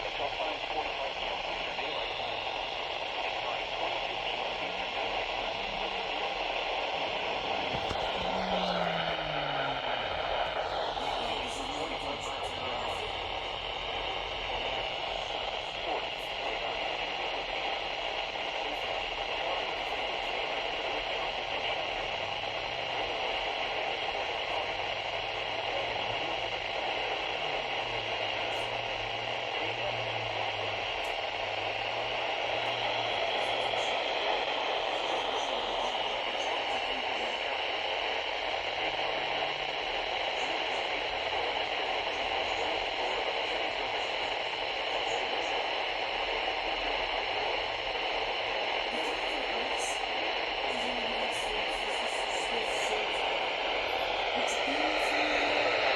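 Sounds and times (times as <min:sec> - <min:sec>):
radio static hiss: 0:00.0 - 0:55.9.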